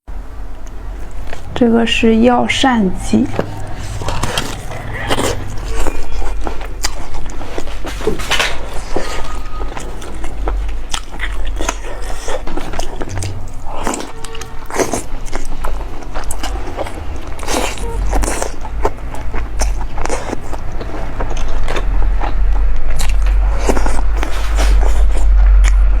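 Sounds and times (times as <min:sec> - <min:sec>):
biting and chewing: 0:03.2 - 0:26.0.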